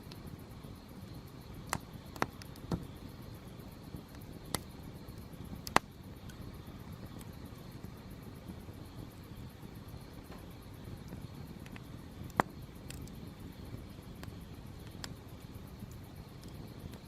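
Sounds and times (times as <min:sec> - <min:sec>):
firewood crackling and popping: 0:00.0 - 0:17.0
campfire flame rushing: 0:00.1 - 0:17.0.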